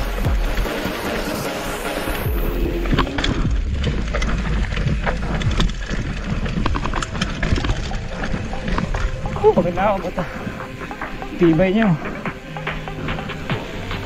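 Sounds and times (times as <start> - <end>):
bike clattering over rough ground: 0.0 - 14.0.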